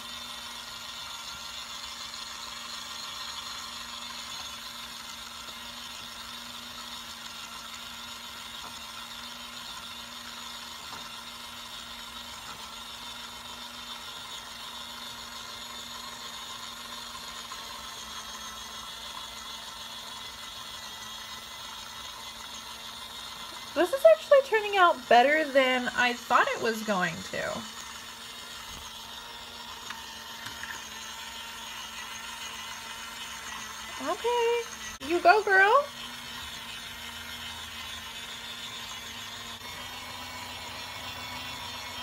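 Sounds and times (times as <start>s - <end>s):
small electric motor humming: 0.0s - 42.0s.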